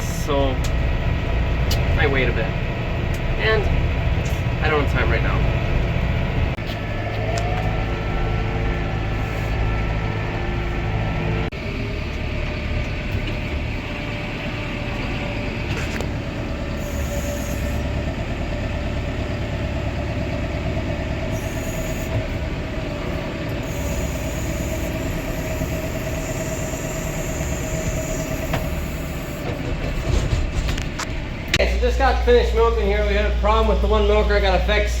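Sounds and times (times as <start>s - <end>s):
tractor engine rumble with whine: 0.0s - 35.0s.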